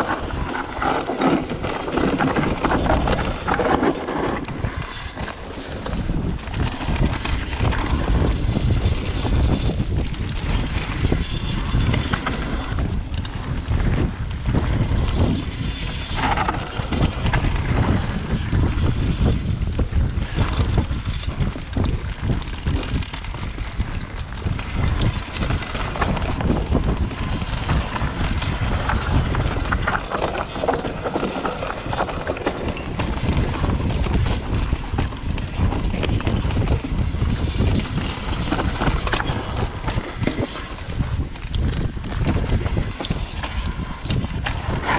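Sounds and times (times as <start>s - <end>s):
bike rattling and knocking: 0.0s - 44.9s
tyres rumbling on dirt trail: 0.0s - 44.9s
wind rushing over microphone: 0.0s - 44.9s.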